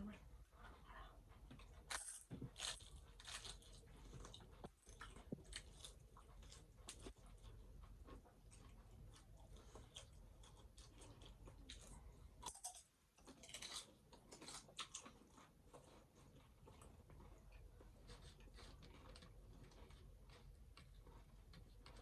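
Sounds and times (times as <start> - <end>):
chewing with crisp crunches: 0.4 - 22.0.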